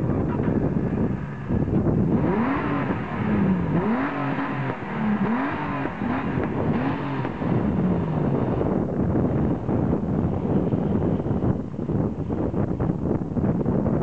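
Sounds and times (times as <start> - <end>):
car engine revving: 0.0 - 13.8.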